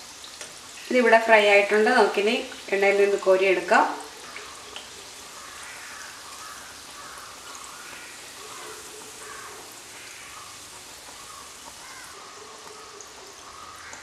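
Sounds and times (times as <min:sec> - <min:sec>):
oil sizzling in a pan: 0:00.0 - 0:14.0.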